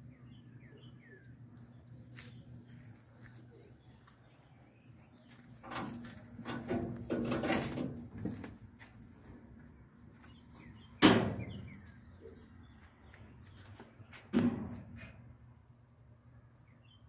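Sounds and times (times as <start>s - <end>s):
birds chirping faintly: 0.0s - 7.2s, 8.3s - 17.0s.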